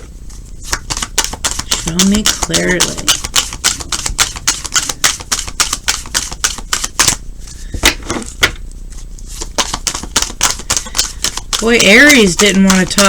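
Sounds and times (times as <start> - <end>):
cards being shuffled by hand: 0.0 - 13.0.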